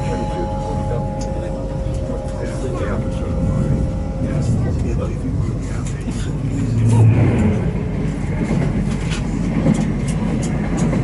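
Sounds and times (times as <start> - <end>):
scattered train clicks: 0.0 - 11.0
train low rumble: 0.0 - 11.0.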